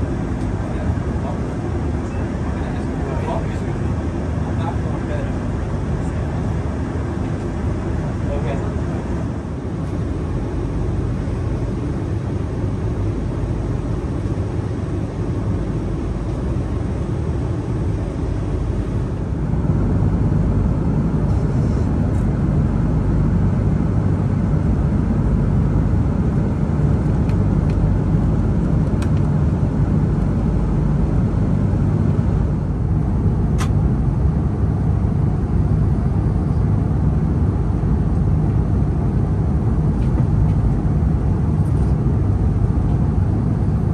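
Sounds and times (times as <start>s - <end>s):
airplane cabin engine rush: 0.0s - 43.9s.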